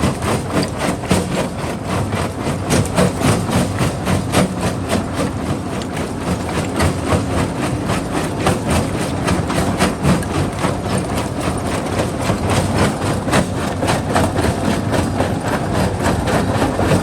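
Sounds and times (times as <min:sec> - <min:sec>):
rock crusher drone: 0:00.0 - 0:17.0.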